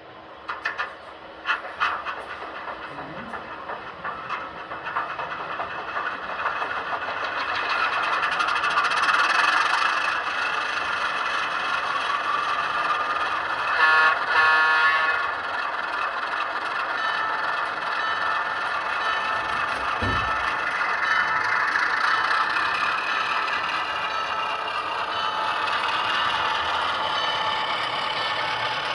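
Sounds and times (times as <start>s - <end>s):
model locomotive running on track: 0.0s - 28.9s.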